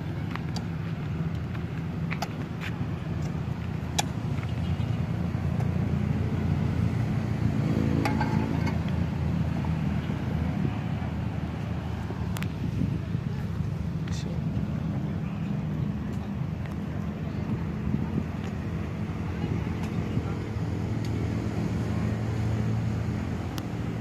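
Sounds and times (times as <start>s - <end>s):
traffic rumble: 0.0s - 24.0s
vehicle engine passing: 0.0s - 24.0s.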